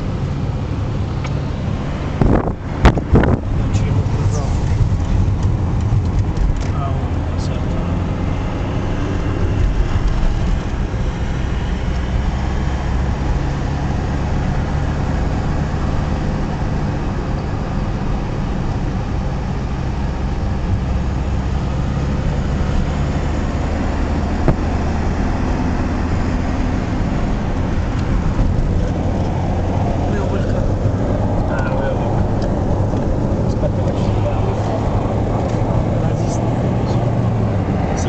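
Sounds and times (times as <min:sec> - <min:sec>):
car engine drone: 0:00.0 - 0:38.0
tyre and road noise: 0:00.0 - 0:38.0.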